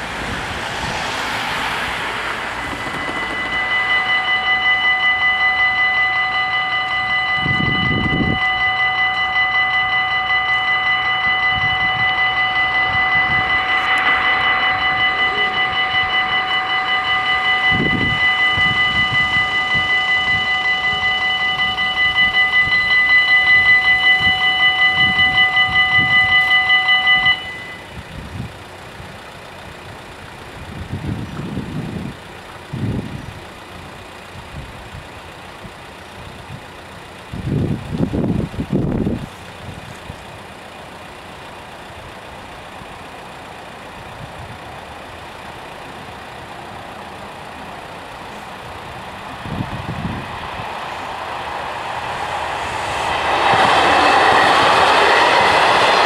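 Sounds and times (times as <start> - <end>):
level crossing warning bells: 0.0 - 56.0.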